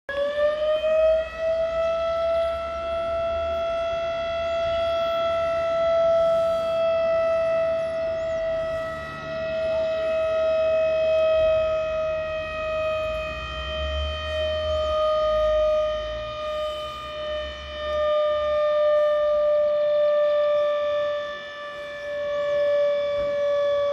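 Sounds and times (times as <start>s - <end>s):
siren wailing: 0.1s - 23.9s.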